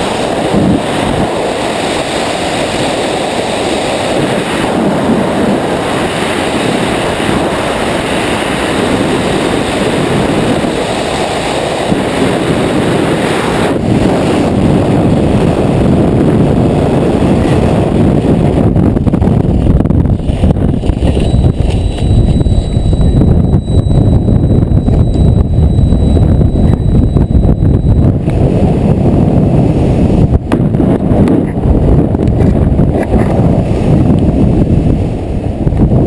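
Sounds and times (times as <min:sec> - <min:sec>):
freefall wind buffeting microphone: 0:00.0 - 0:36.0.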